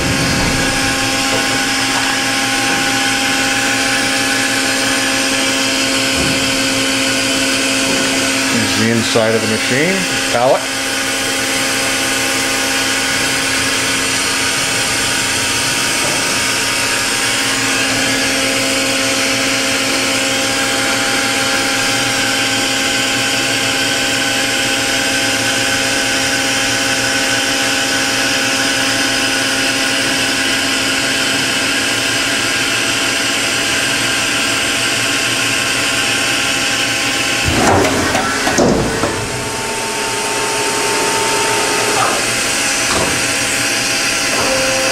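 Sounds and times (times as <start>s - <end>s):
machining center spindle whine: 0.0s - 44.9s.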